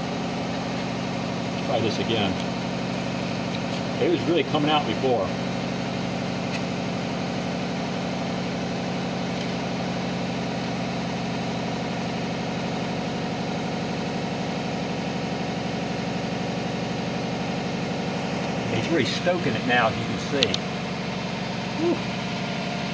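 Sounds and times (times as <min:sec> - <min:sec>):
air compressor running: 0:00.0 - 0:22.9.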